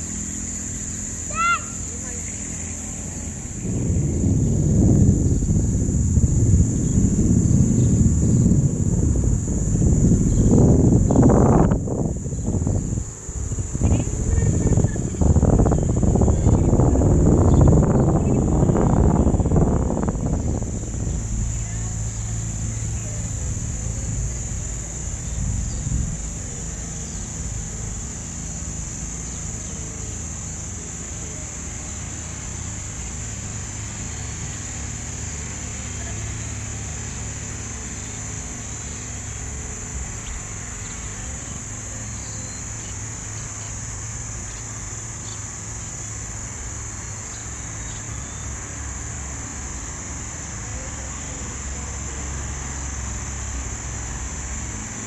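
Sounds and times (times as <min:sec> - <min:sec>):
insect chorus drone: 0:00.0 - 0:55.0
low engine rumble: 0:00.0 - 0:55.0.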